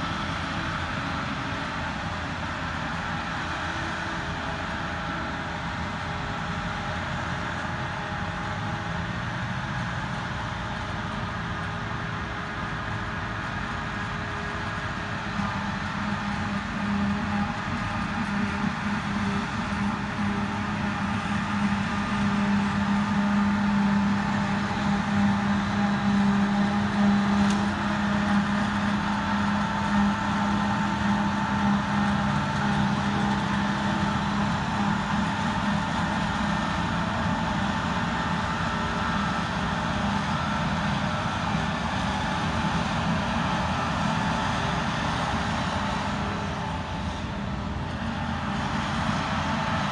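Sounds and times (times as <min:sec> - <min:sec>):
forage harvester droning: 0:00.0 - 0:49.9.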